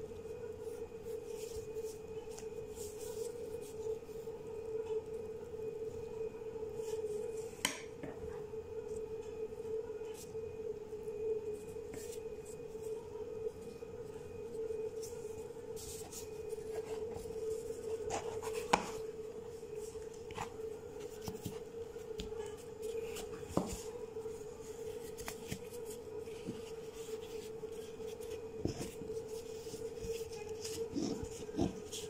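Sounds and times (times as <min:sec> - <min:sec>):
hands rubbing dough and plastic: 0:00.0 - 0:05.2, 0:11.3 - 0:32.0
steady hum: 0:00.0 - 0:32.0.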